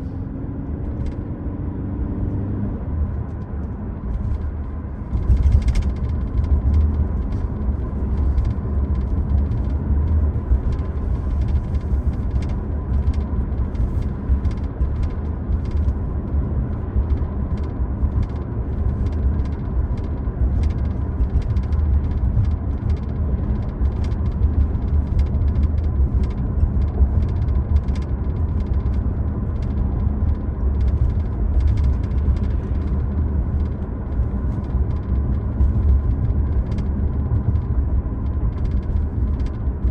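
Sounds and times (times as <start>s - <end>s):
light clicks and knocks from road: 0.0s - 39.9s
road and tyre rumble: 0.0s - 39.9s.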